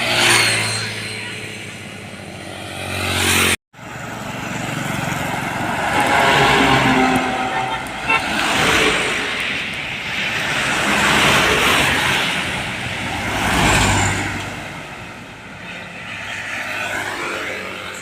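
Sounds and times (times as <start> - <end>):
vehicles passing by: 0.0 - 18.0.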